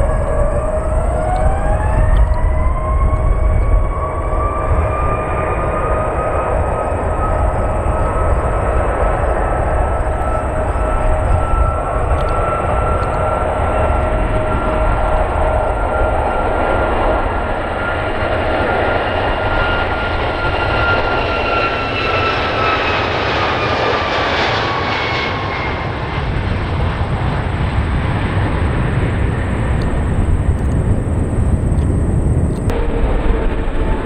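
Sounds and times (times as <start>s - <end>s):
jet engines rumbling and whining: 0.0s - 34.0s.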